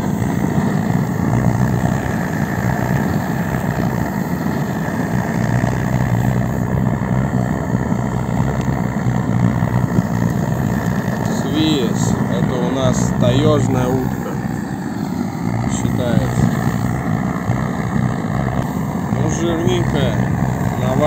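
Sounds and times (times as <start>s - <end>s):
blowtorch burning: 0.0s - 21.0s.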